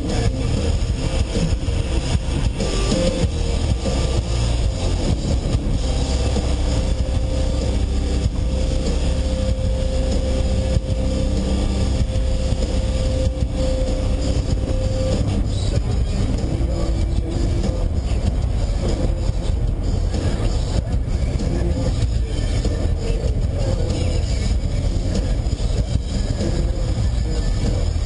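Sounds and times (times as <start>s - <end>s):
car engine drone in cabin: 0.0s - 28.0s.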